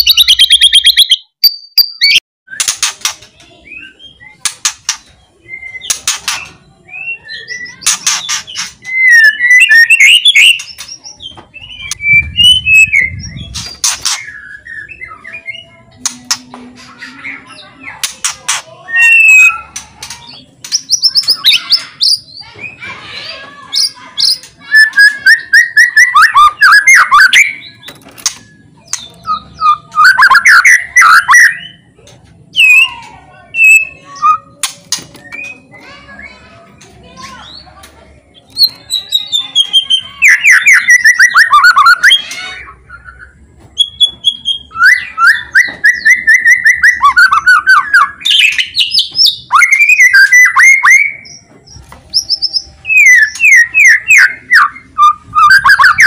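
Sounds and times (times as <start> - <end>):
songbird whistling song: 0.0 - 16.0, 18.8 - 31.9, 32.5 - 37.7, 38.3 - 56.0.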